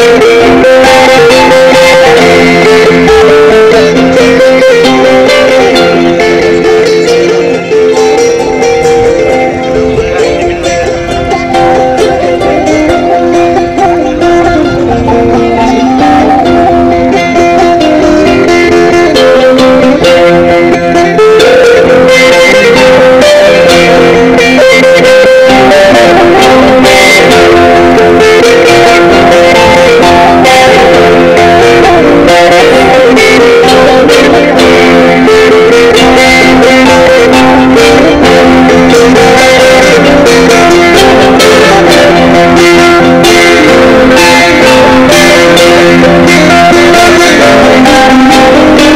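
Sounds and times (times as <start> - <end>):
plucked lute melody: 0.0 - 48.9.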